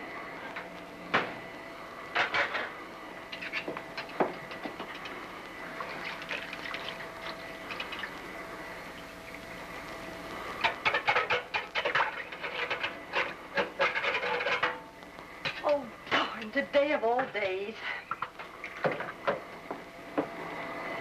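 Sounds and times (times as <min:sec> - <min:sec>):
faint steady whine: 0:00.0 - 0:21.0.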